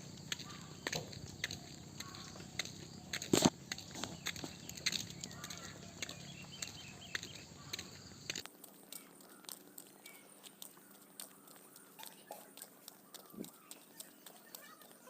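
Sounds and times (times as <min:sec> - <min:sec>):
footsteps on a path: 0:00.0 - 0:15.0
small crackles and clicks: 0:00.0 - 0:15.0
faint bird chirps: 0:00.4 - 0:15.0.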